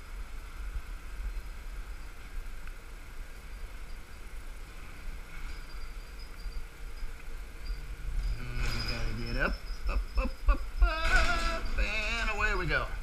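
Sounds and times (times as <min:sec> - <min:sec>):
crane machinery rumble: 0:00.0 - 0:13.0
faint high whine: 0:00.0 - 0:13.0.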